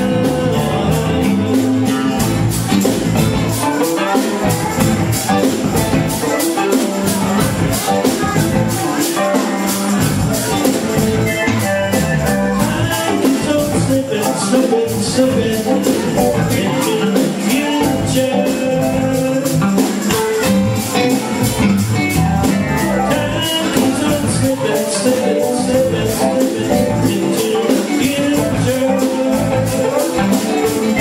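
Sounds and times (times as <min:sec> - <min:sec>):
bass guitar: 0:00.0 - 0:31.0
drum kit: 0:00.0 - 0:31.0
electric guitars: 0:00.0 - 0:31.0.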